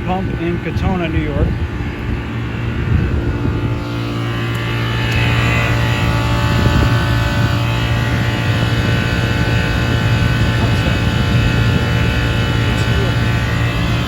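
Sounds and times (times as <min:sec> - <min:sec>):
compressor hum: 0:00.0 - 0:14.0
condenser fan rushing: 0:00.0 - 0:14.0.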